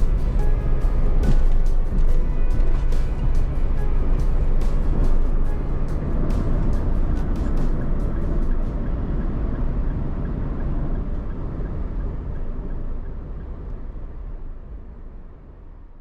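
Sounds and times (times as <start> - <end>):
vehicle road noise rumble: 0.0 - 16.0.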